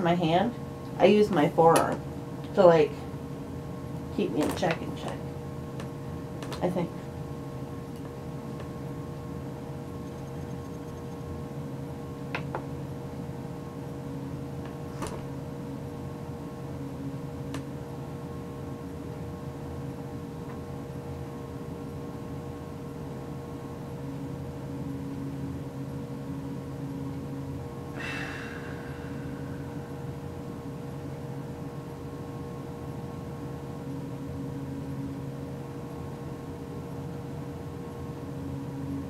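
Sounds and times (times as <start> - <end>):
room hum: 0.0 - 39.0.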